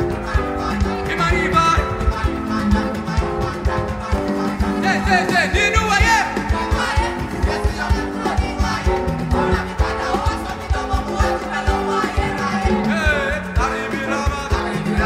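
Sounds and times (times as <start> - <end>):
guitar: 0.0 - 15.0
people singing: 0.0 - 15.0
steady drum beat: 0.0 - 15.0.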